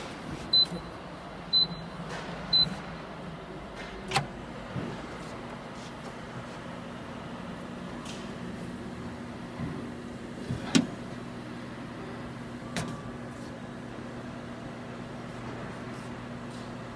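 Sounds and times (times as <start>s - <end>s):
microwave oven humming: 0.0s - 16.9s.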